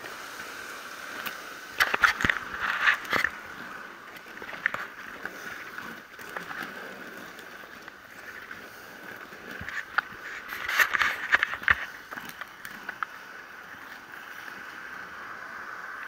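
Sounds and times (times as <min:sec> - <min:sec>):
bicycle tyre and wind rush: 0:00.0 - 0:16.0
bicycle rattling clicks: 0:00.4 - 0:14.6.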